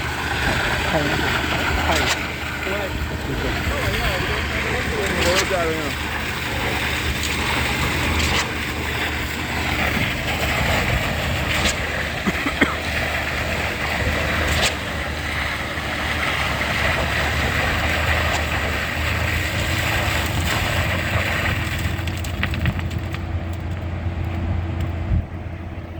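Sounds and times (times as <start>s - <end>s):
concrete pump engine drone: 0.0s - 25.9s.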